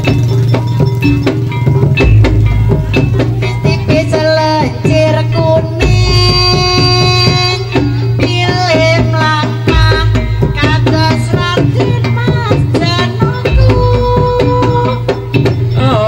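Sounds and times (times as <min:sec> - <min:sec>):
hand drums beating: 0:00.0 - 0:16.0
wavering held melody: 0:00.0 - 0:16.0.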